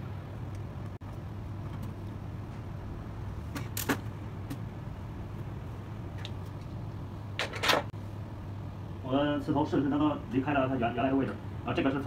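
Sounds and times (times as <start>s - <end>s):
air handling hum: 0.0s - 12.0s.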